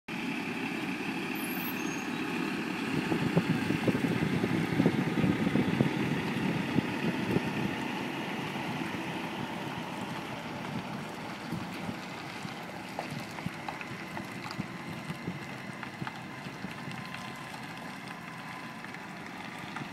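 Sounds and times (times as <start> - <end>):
truck diesel engine running: 0.1 - 19.9
tyres crackling on gravel: 0.2 - 19.9.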